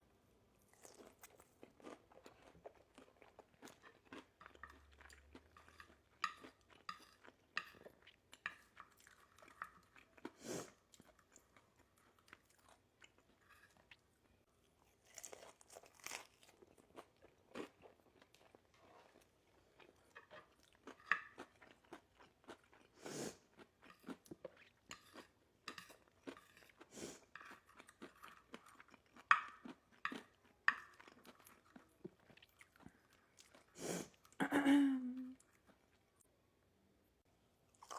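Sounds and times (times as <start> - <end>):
person chewing crispy food: 0.6 - 34.4, 37.7 - 37.9.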